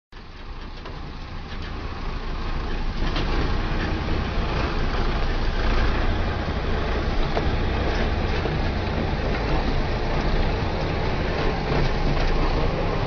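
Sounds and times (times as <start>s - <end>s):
truck diesel engine rumbling: 0.1s - 13.0s.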